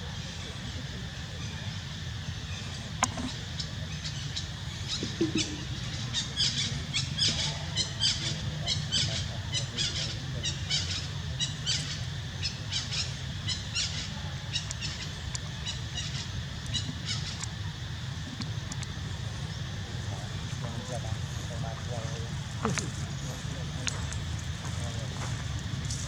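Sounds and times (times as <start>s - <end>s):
steady low rumble: 1.0s - 26.0s.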